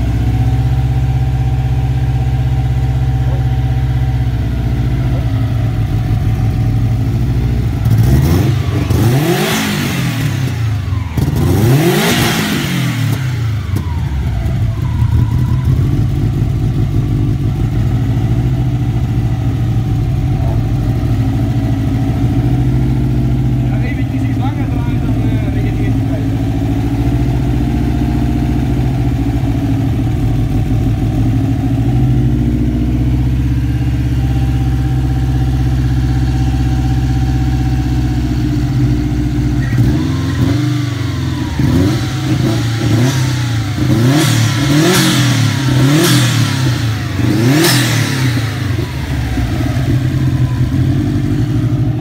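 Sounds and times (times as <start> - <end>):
car engine idling and revving: 0.0 - 52.0.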